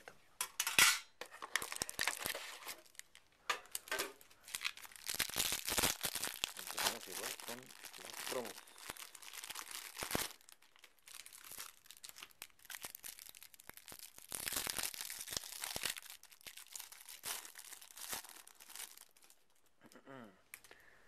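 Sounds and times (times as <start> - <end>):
plastic wrapper crinkling and tearing: 1.3 - 19.6.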